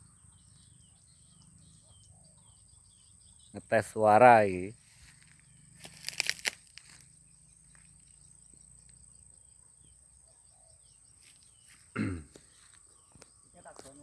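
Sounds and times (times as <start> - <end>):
faint high bird chirps: 0.0 - 14.0.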